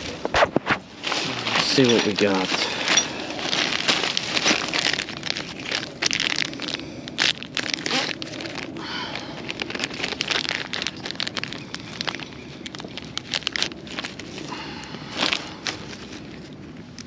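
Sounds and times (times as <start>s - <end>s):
plastic packets rustling: 0.0s - 17.0s.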